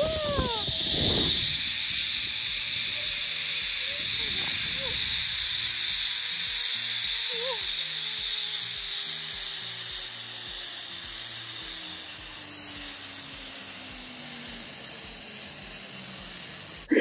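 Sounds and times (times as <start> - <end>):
zipline trolley on steel cable: 0.0 - 17.0.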